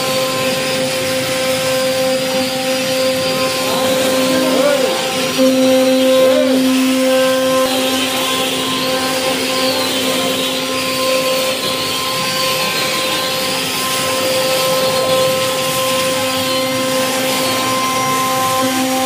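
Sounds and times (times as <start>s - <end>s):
cnc router spindle whine: 0.0s - 19.0s.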